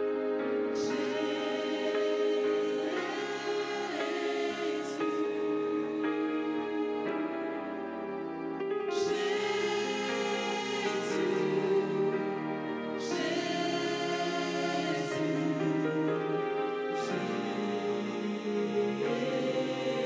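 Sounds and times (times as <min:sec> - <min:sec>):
bright shimmering wash: 0:00.0 - 0:20.0
gospel choir singing: 0:00.0 - 0:20.0
keyboard accompaniment: 0:00.0 - 0:20.0.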